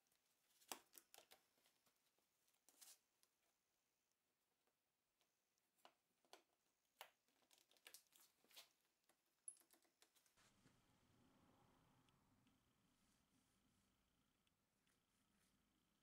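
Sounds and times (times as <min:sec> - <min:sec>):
faint low hum: 0:00.1 - 0:16.0.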